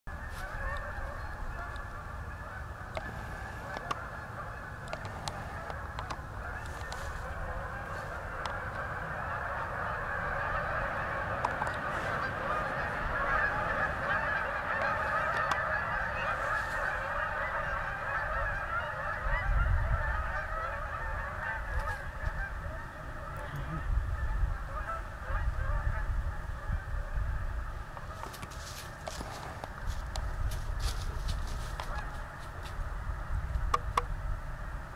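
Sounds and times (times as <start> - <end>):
flock of geese honking: 0.1 - 34.9.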